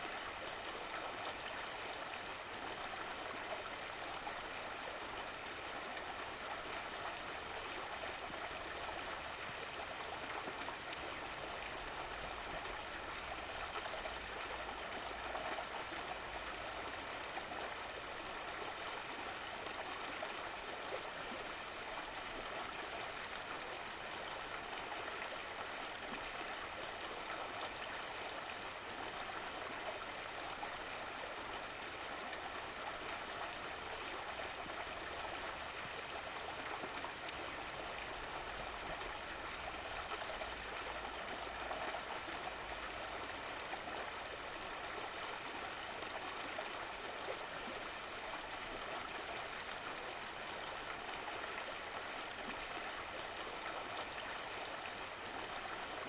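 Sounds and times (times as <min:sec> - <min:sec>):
stream of running water: 0:00.0 - 0:56.0.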